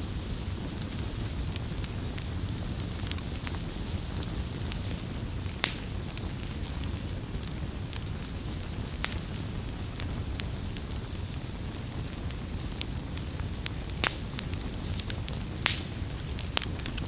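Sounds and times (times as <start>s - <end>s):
low rumble of burning: 0.0s - 17.0s
wood fire crackling and popping: 0.0s - 17.0s.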